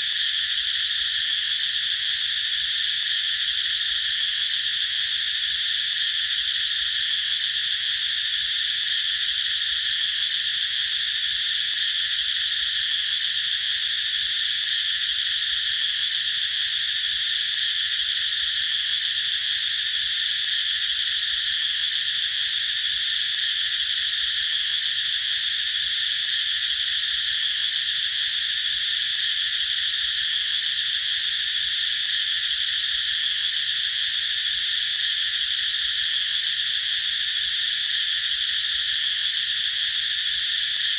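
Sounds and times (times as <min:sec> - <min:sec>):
cicadas droning: 0:00.0 - 0:40.9.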